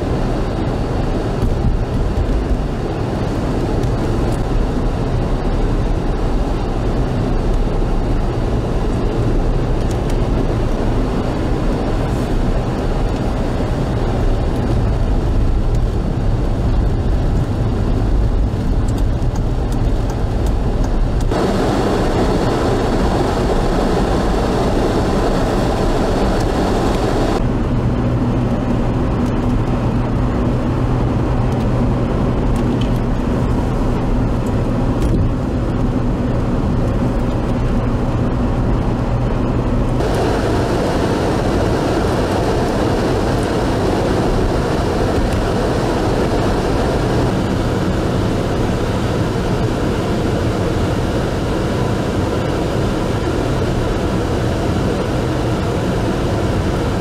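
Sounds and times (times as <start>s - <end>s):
low engine hum: 0.0s - 57.0s
road noise: 0.0s - 57.0s
wind noise: 0.0s - 57.0s.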